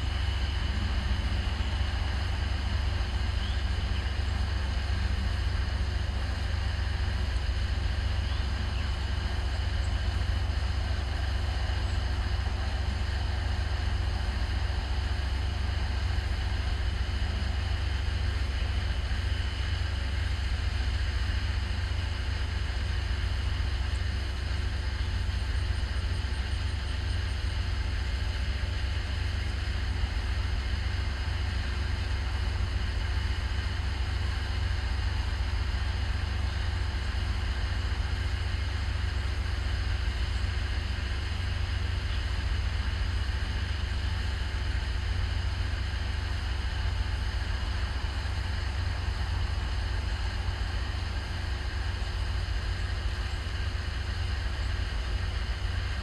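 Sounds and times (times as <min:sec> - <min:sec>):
diesel engines rumbling: 0:00.0 - 0:56.0.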